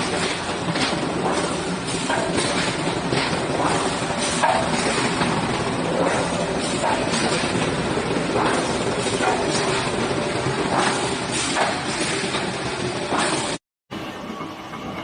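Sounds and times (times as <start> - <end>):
knocks and clanks: 0.0 - 13.6
factory machinery running: 0.0 - 15.0.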